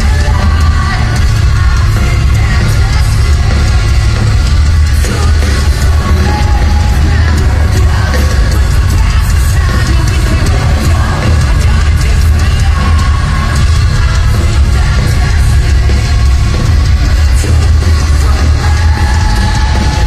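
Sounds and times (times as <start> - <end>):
distorted guitars: 0.0 - 20.0
drums: 0.0 - 20.0
heavy bass: 0.0 - 20.0
yelled and sung vocals: 0.0 - 20.0.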